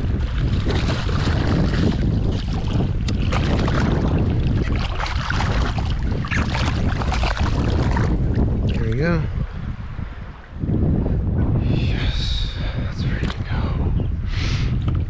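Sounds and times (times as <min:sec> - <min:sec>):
moving water: 0:00.0 - 0:10.8, 0:11.6 - 0:15.0
wind rumble on microphone: 0:00.0 - 0:15.0.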